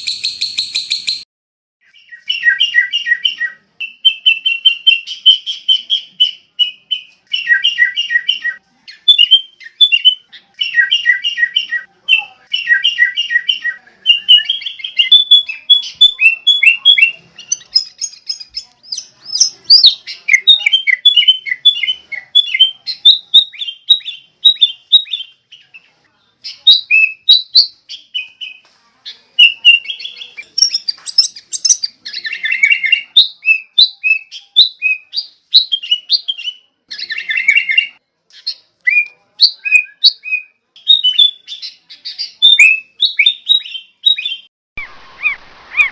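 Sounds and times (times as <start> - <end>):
songbird chirping: 0.0 - 45.9.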